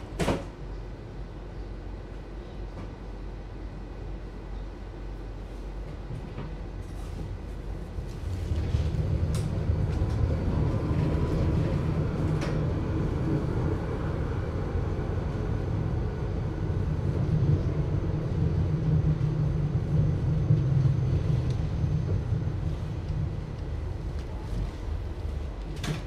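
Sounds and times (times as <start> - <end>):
muffled tram equipment hum: 0.0 - 26.0.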